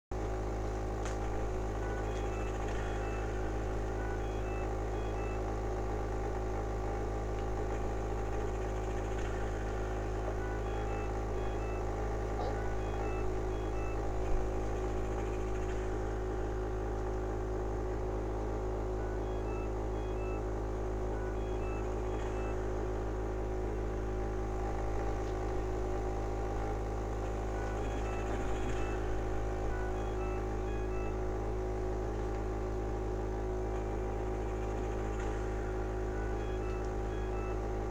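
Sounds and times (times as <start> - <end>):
blower machine hum: 0.1 - 37.9.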